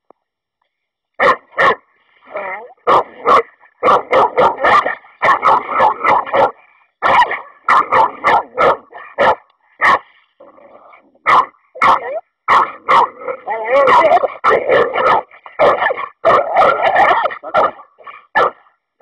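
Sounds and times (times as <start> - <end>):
dog barking loudly: 1.2 - 1.9, 2.8 - 10.1, 11.2 - 18.7.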